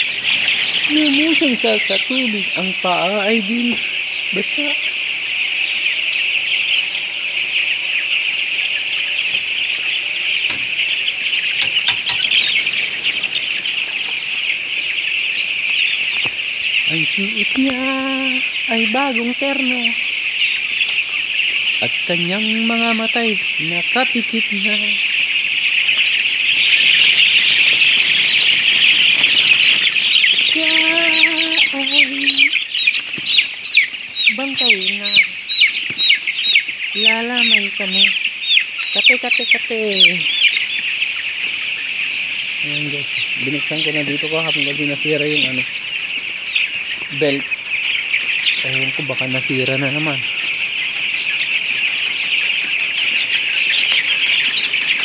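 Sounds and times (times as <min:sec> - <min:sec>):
chickens peeping and chirping: 0:00.0 - 0:55.0.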